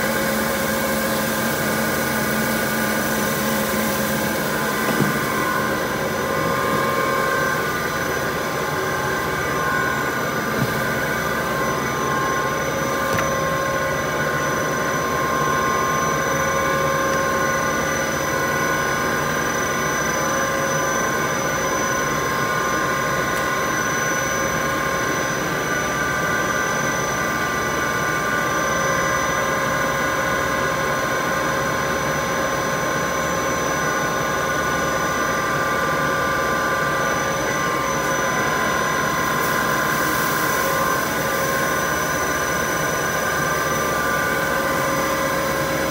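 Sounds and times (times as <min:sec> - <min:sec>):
machinery drone: 0:00.0 - 0:27.9, 0:32.8 - 0:45.9
machinery whining tones: 0:00.0 - 0:29.8, 0:32.0 - 0:45.9.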